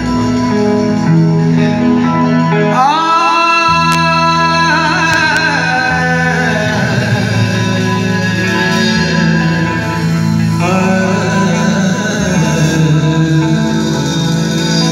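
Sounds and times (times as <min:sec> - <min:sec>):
live rock band playing: 0:00.0 - 0:14.9
man singing: 0:01.6 - 0:14.9.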